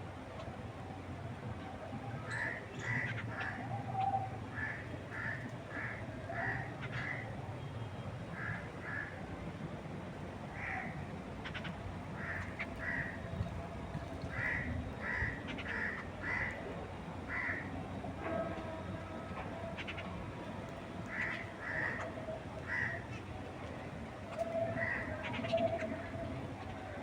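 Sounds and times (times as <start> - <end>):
wind through trees: 0.0 - 27.0.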